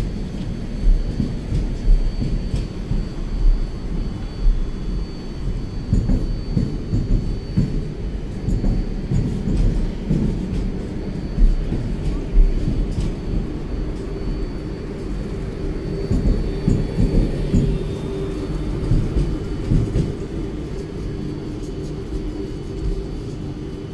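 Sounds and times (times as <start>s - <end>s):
faint high whine: 0.0s - 23.9s
low hum: 0.0s - 23.9s
train rumbling past: 0.0s - 23.9s.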